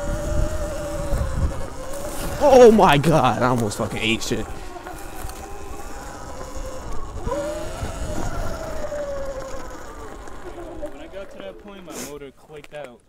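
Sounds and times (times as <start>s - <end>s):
electric vehicle motor whining: 0.0s - 12.3s.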